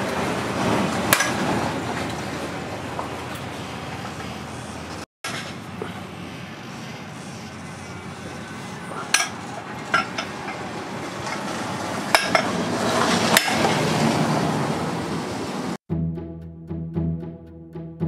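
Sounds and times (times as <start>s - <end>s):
steady background noise: 0.0s - 15.8s.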